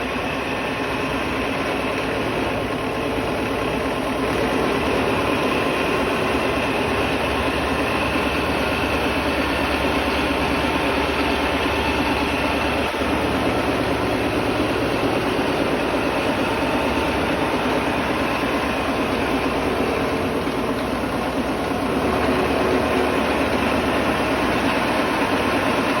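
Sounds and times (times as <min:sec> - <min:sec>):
milling machine cutting: 0:00.0 - 0:26.0.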